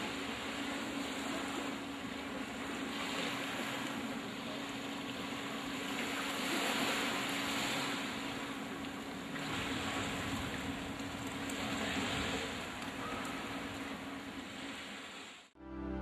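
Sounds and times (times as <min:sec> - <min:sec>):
steady low hum: 0:00.0 - 0:14.8
surf: 0:00.0 - 0:15.4.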